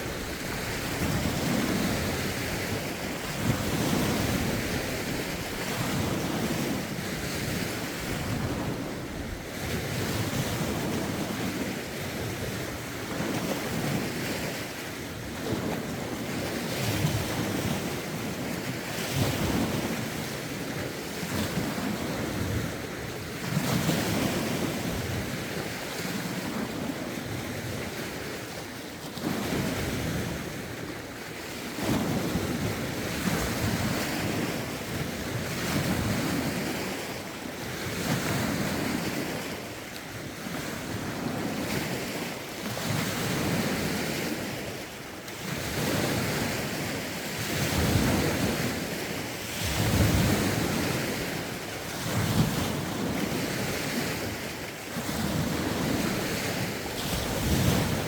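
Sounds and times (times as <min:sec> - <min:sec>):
waves washing onto shore: 0:00.0 - 0:58.0
wind on microphone: 0:00.0 - 0:58.0.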